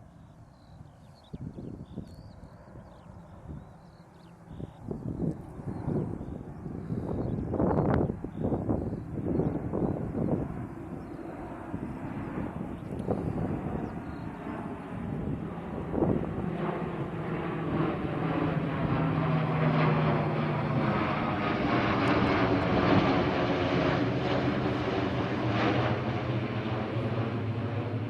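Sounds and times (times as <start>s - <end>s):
turboprop plane flying past: 0.0s - 28.0s.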